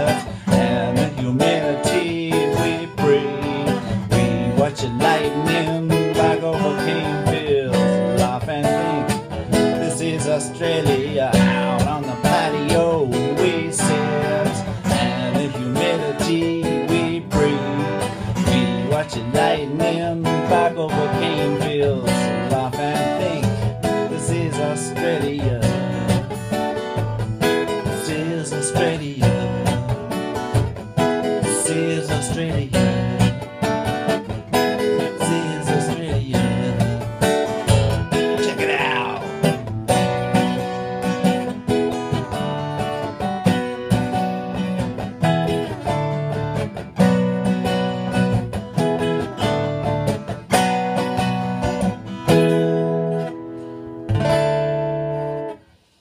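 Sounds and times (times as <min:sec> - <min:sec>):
acoustic guitar strumming chords: 0:00.0 - 0:56.0.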